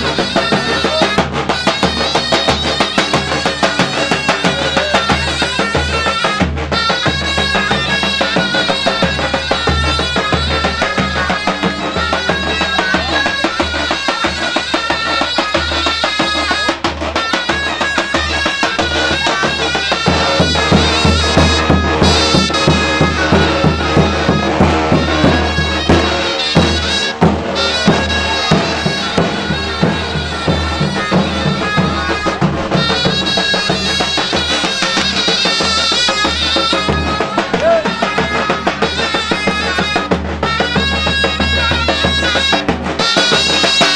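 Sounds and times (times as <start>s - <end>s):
shrill reed pipe melody: 0.0s - 43.9s.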